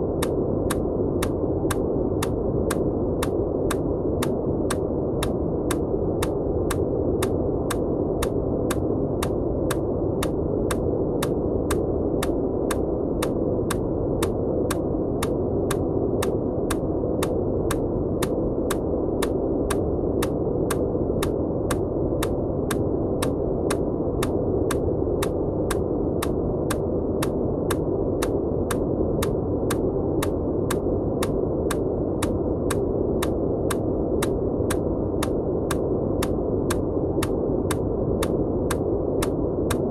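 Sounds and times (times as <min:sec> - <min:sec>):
low-pitched white noise: 0:00.0 - 0:39.9.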